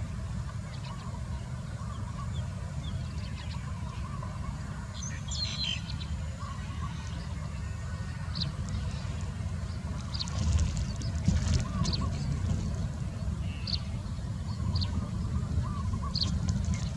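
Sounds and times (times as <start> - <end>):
steady low rumble: 0.0 - 16.9
small songbirds chirping: 0.6 - 16.9.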